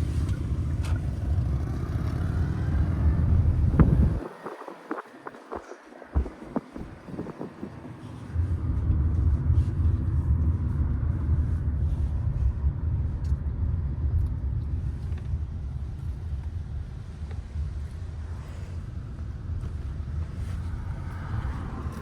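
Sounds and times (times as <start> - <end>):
road noise rumble inside car: 0.0 - 22.0.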